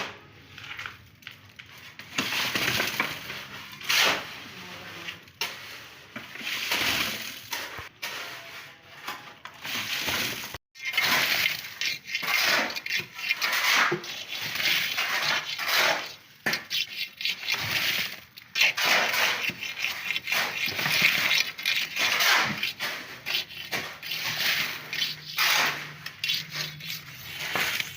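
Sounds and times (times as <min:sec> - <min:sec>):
gritty scraping and crunching: 0:00.4 - 0:27.9.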